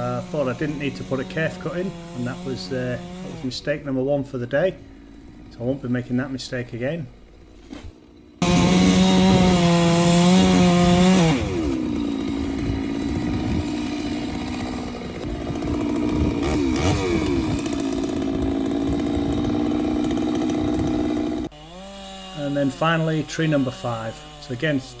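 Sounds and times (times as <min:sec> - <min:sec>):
chainsaw cutting tree: 0:00.0 - 0:25.0.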